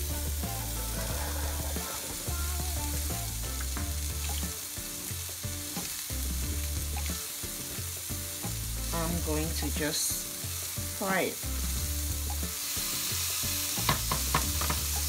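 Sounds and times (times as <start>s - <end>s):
meat sizzling in a grill pan: 0.0s - 15.0s.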